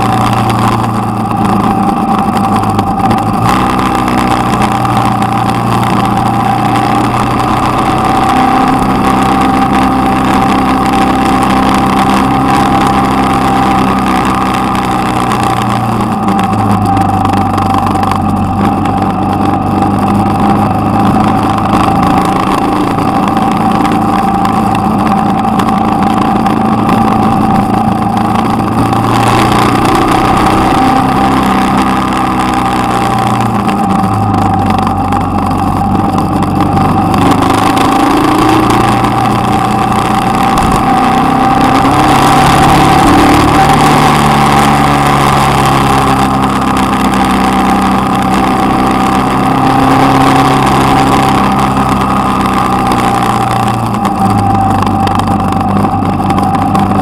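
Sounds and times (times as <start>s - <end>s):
motorcycle engine running: 0.0s - 57.0s
rushing wind: 0.0s - 57.0s
steady whine: 0.0s - 57.0s.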